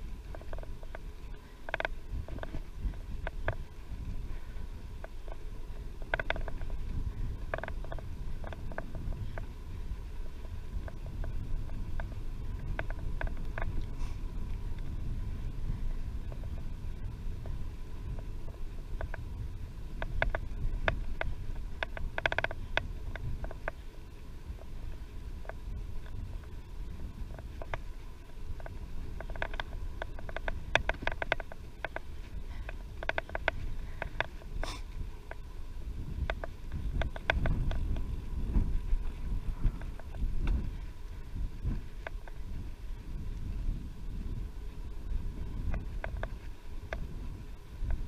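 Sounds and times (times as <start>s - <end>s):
bicycle clicks and rattles: 0.0s - 48.0s
wind buffeting microphone: 0.0s - 48.0s.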